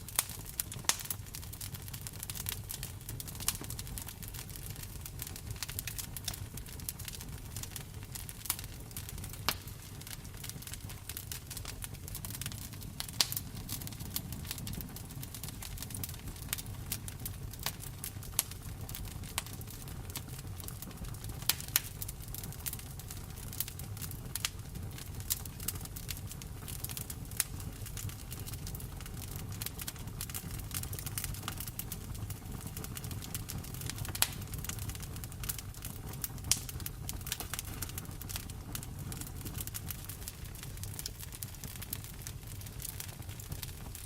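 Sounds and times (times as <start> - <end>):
wood fire crackling and popping: 0.0 - 44.0.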